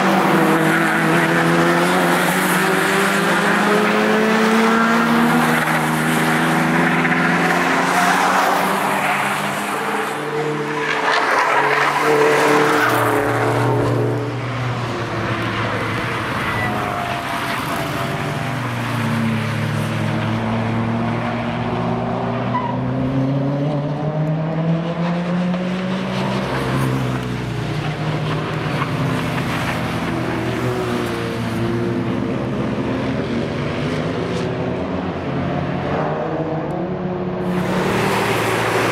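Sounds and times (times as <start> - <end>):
race cars revving past: 0.0 - 38.9.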